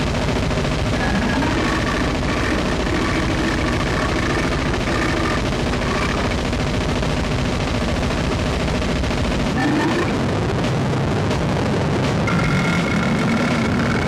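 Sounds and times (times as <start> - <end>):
harsh noise wall with crackle: 0.0 - 14.0.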